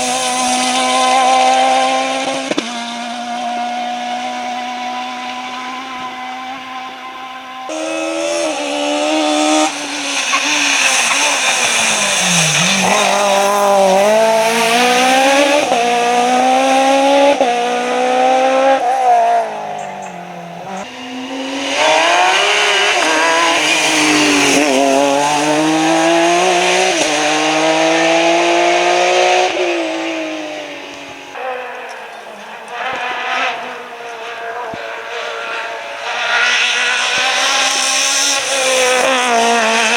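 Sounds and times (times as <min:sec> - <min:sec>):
rally car engine at full throttle: 0:00.0 - 0:39.9.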